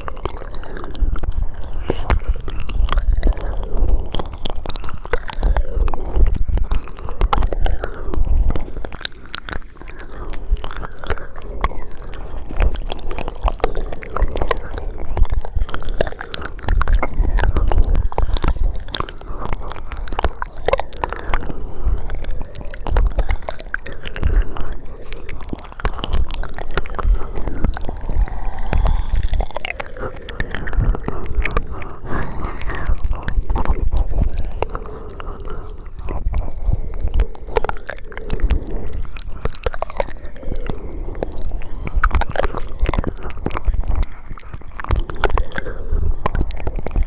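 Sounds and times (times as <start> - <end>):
wet mouth clicks and smacks: 0.0 - 47.0.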